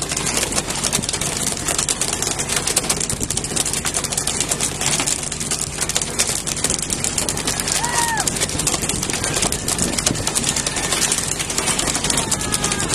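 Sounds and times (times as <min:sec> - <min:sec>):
boat engine running: 0:00.0 - 0:12.9.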